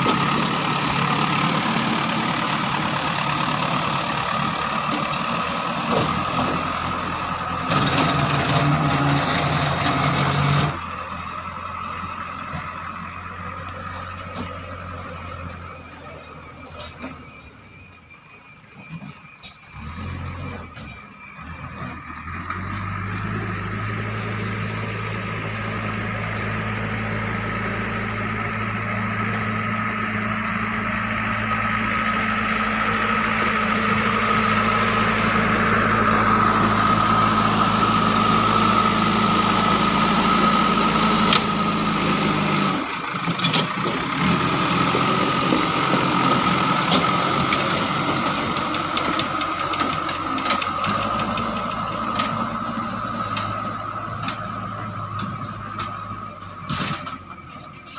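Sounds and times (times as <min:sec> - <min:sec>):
diesel engine running under load: 0:00.0 - 0:57.9.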